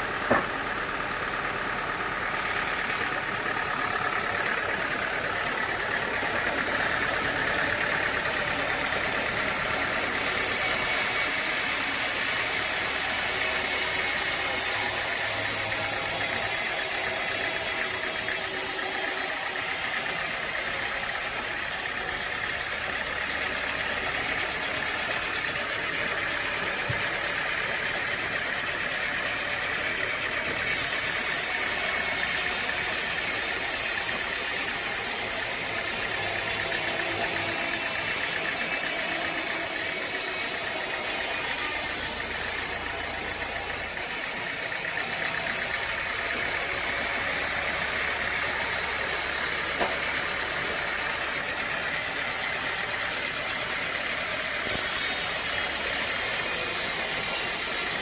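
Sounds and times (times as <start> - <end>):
sawmill machinery engine drone: 0.0 - 58.0.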